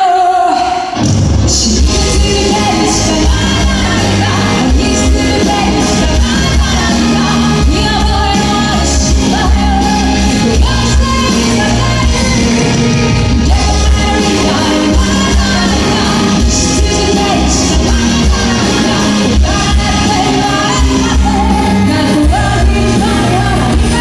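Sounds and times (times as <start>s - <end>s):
live pop rock band: 0.0s - 24.0s
person singing: 0.0s - 24.0s.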